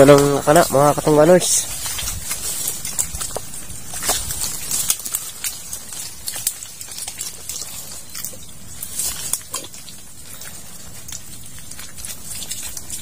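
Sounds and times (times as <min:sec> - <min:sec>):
rustling through branches: 0:00.0 - 0:13.0
snapping: 0:01.6 - 0:13.0.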